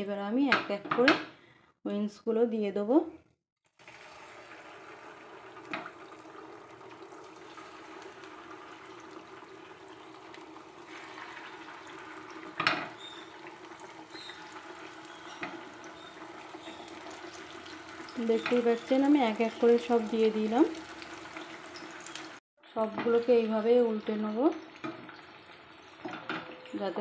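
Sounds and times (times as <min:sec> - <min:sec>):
food deep-frying in oil: 0:03.7 - 0:27.0.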